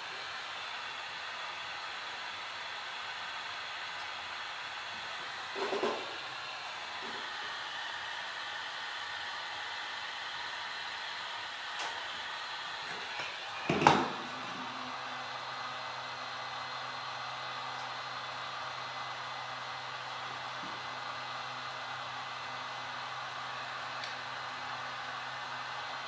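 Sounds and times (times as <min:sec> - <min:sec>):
heat gun blowing: 0:00.0 - 0:26.0.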